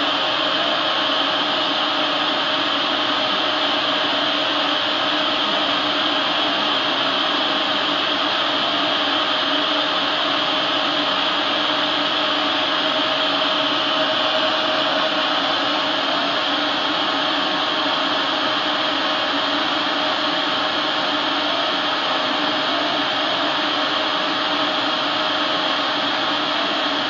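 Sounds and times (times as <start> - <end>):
laser cutter fans: 0.0 - 27.0.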